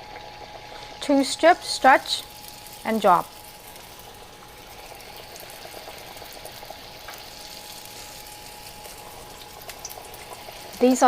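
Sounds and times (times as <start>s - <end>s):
dough deep-frying in hot oil: 0.0s - 11.0s.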